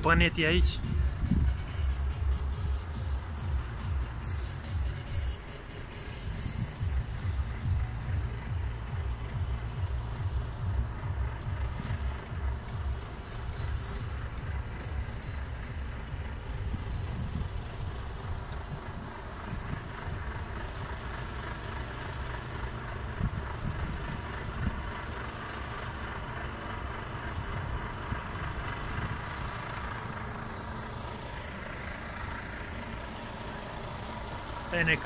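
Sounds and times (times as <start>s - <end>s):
truck engines idling: 0.0s - 35.0s.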